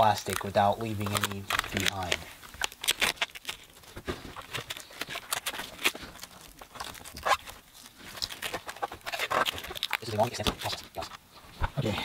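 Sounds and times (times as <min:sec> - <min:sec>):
plastic film peeling and crinkling: 0:00.0 - 0:11.9.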